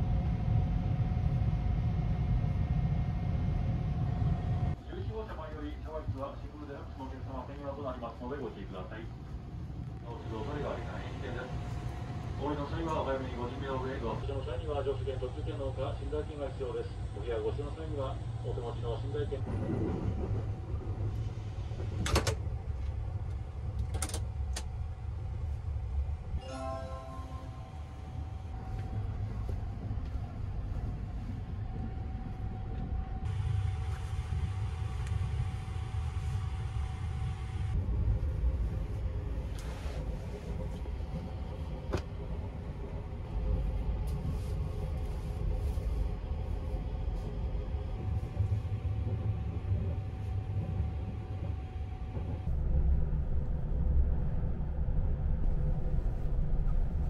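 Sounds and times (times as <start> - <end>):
steady low hum: 0.0 - 26.4, 27.2 - 57.0
train rumbling: 0.0 - 57.0.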